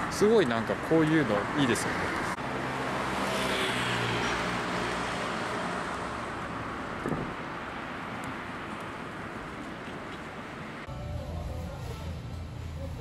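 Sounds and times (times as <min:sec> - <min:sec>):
road noise rushing: 0:00.0 - 0:13.0.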